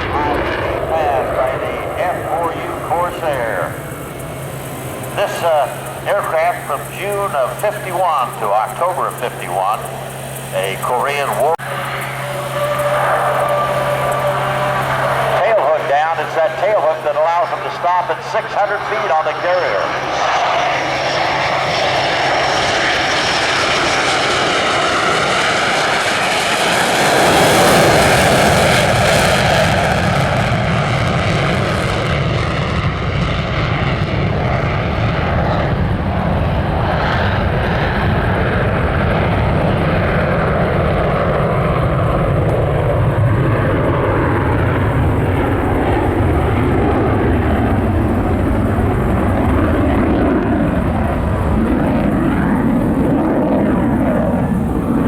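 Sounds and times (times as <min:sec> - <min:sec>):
propeller plane engine passing: 0:00.0 - 0:55.0.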